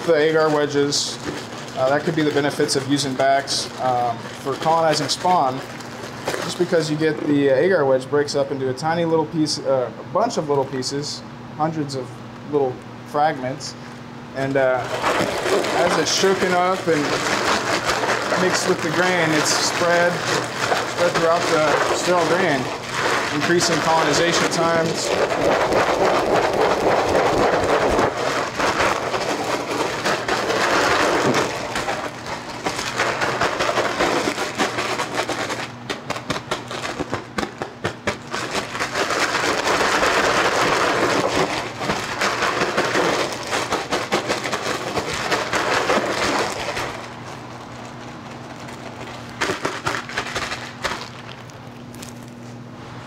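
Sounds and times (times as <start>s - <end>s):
grain rattling in a shaken bag: 0.0s - 7.4s, 14.4s - 52.4s.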